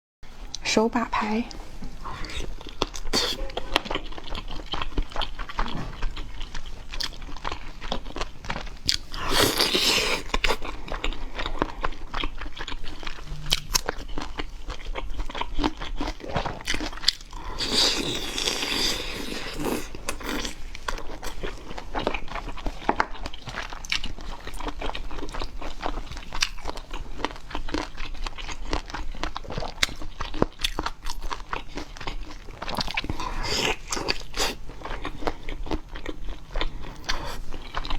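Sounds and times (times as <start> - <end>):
seafood crunching while chewed: 1.8 - 37.9.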